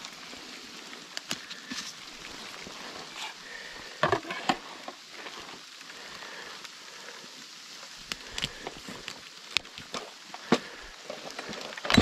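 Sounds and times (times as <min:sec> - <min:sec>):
hail and rain falling: 0:00.0 - 0:12.0.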